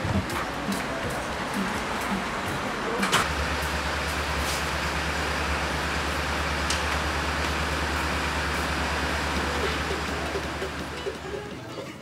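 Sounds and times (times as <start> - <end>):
traffic rumble: 0.0 - 11.6
bus engine drone: 0.0 - 11.7.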